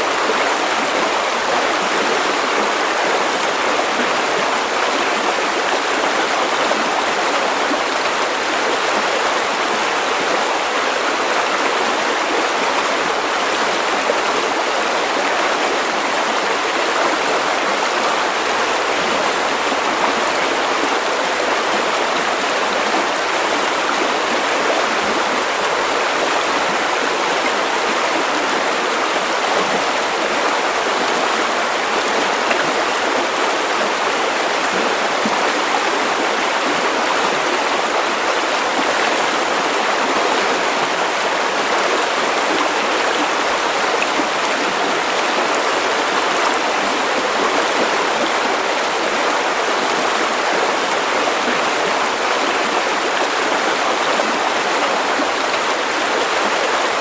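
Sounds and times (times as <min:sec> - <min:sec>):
river running over stones: 0:00.0 - 0:57.0.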